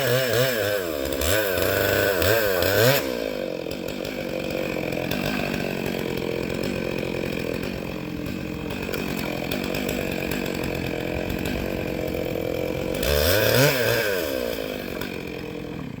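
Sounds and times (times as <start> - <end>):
chainsaw engine revving: 0.0 - 16.0.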